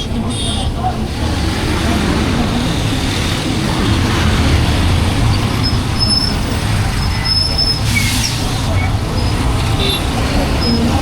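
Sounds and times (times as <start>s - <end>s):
road noise: 0.0s - 11.0s
vehicle engines: 0.0s - 11.0s.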